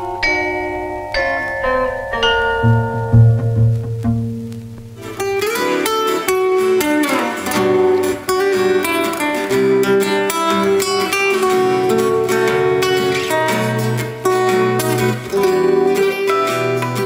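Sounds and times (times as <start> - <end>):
instrumental guitar music: 1.6 - 17.0.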